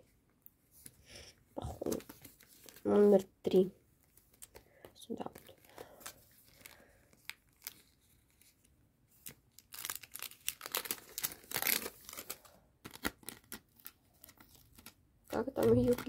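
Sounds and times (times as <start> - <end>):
paper and tape crinkling: 1.6 - 16.0.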